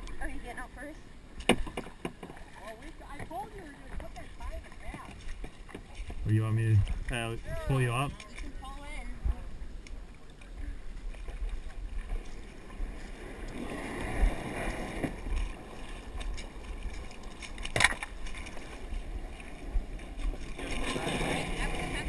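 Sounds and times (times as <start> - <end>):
shallow water splashing: 0.0 - 22.0.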